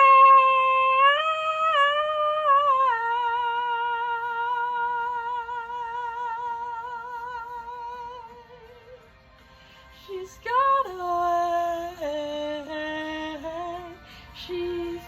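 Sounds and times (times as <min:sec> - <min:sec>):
woman singing unaccompanied: 0:00.0 - 0:09.0, 0:10.0 - 0:15.0.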